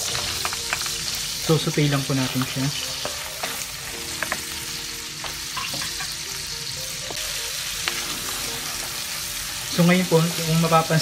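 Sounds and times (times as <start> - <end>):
onion sizzling in a frying pan: 0.0 - 11.0.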